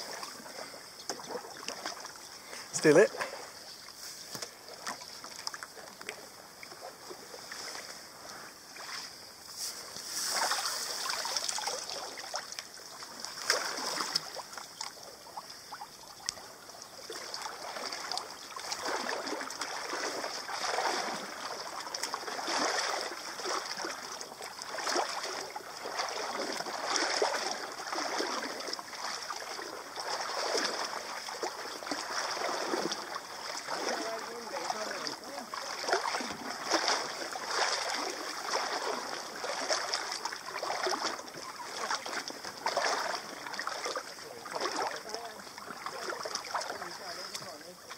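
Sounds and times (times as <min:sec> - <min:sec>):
paddle splashing through water: 0:00.0 - 0:47.9.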